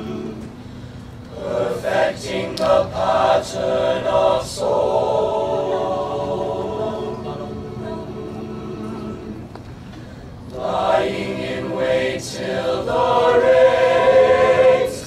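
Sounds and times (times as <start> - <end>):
choir singing: 0.0 - 0.6, 1.3 - 9.5, 10.5 - 15.0.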